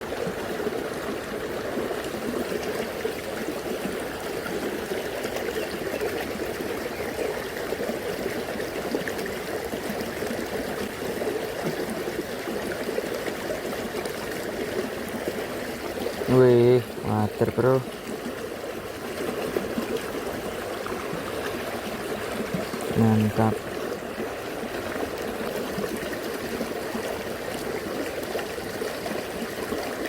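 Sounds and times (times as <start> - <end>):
river babbling over stones: 0.0 - 30.0.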